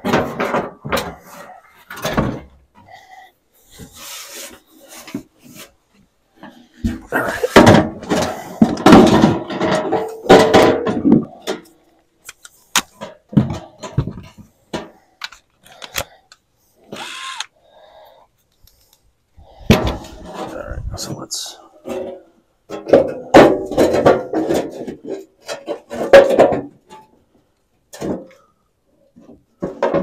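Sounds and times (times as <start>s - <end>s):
rubbing and scraping handling noise: 0.0s - 17.5s, 18.4s - 30.0s.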